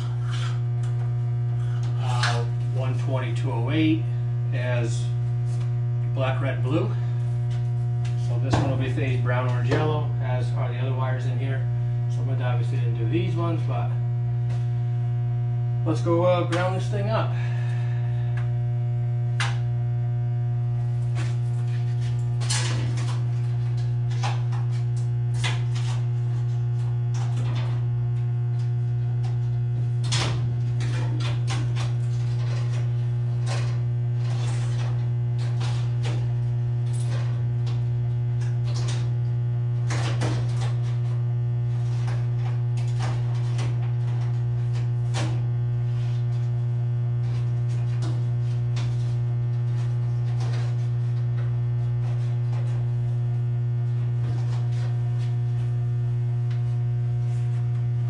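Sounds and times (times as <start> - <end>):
transformer hum: 0.0 - 58.0.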